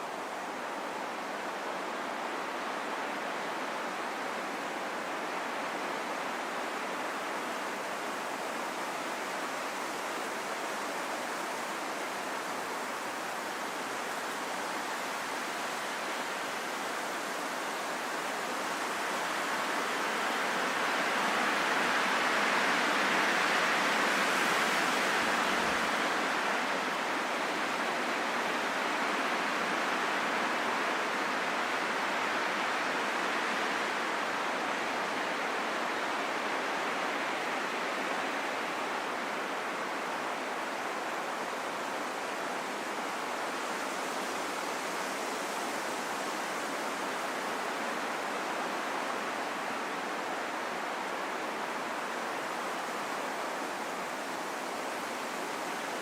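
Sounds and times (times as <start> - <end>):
steady rain in forest: 0.0 - 56.0.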